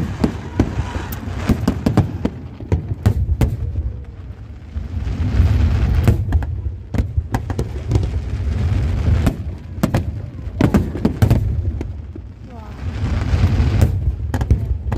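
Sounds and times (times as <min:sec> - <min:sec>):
fireworks sharp bangs: 0:00.0 - 0:14.9
low rumble of booms: 0:00.0 - 0:14.9.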